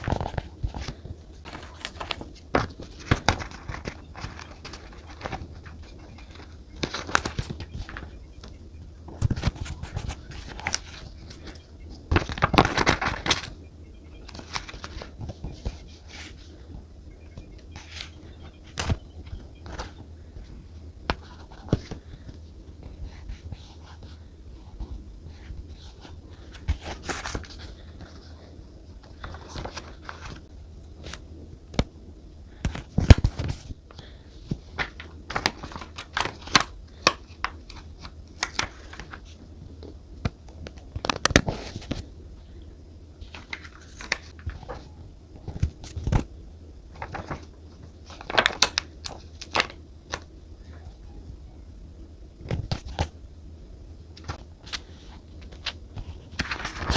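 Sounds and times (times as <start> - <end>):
paper rustling and crinkling: 0.0 - 8.1, 9.1 - 13.6, 14.2 - 16.8, 17.8 - 31.2, 32.5 - 39.4, 40.6 - 42.1, 43.2 - 46.3, 46.9 - 50.8, 54.2 - 56.9
steady low hum: 0.0 - 56.9.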